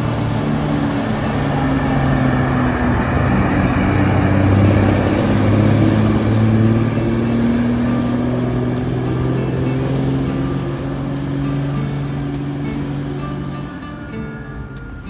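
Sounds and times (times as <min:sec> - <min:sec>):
bus diesel engine passing: 0:00.0 - 0:15.0.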